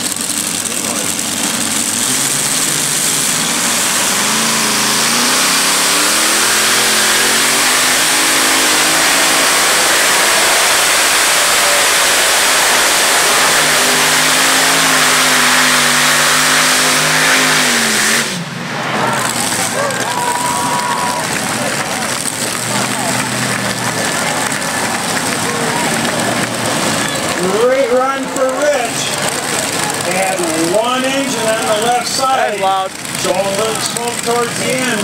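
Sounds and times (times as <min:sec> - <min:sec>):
tractor engine at full throttle: 0:00.0 - 0:35.0.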